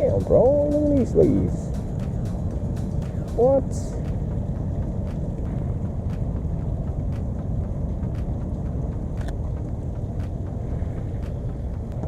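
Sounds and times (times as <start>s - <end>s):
faint ticks: 0.0s - 12.0s
wind buffeting microphone: 0.0s - 12.0s.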